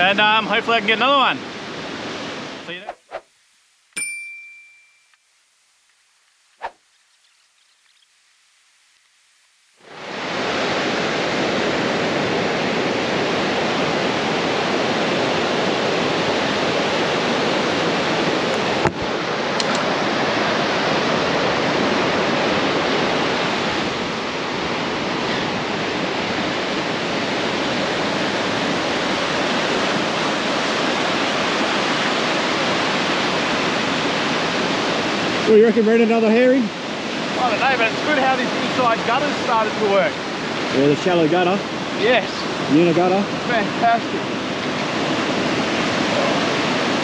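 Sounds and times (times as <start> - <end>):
ocean surf on beach: 0.0 - 3.0, 4.0 - 47.0.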